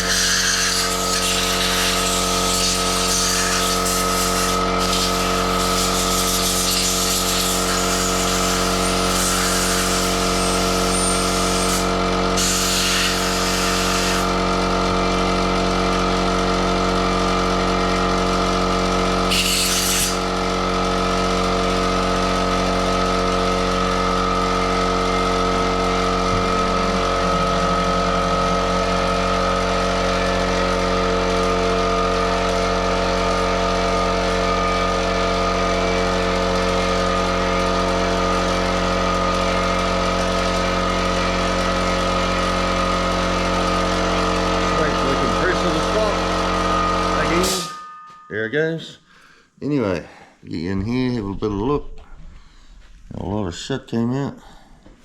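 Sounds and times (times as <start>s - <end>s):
air compressor motor running: 0.0s - 48.2s.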